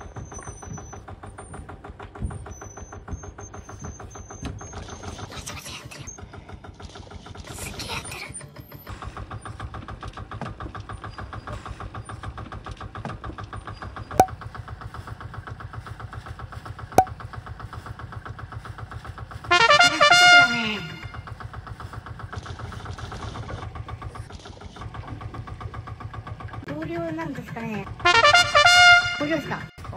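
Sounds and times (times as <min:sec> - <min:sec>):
boat engine idling: 0:00.0 - 0:29.9.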